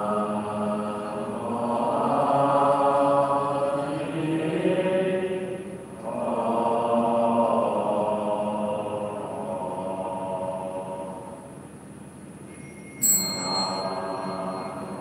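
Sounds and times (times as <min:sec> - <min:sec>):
devotional chanting: 0:00.0 - 0:11.6, 0:13.0 - 0:15.0.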